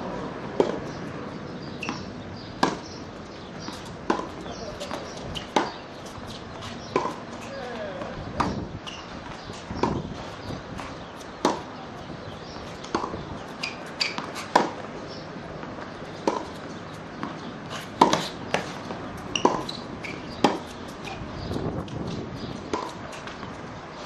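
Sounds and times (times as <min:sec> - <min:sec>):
tennis ball struck by racquets: 0:00.6 - 0:23.6.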